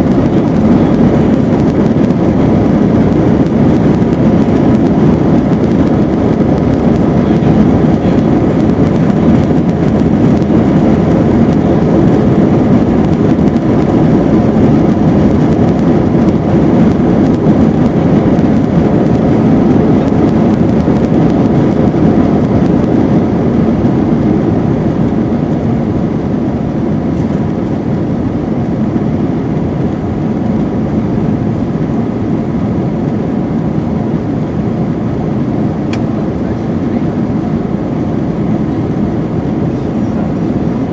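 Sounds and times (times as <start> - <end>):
faint hum: 0.0 - 40.9
jet engines rumbling in cabin: 0.0 - 40.9.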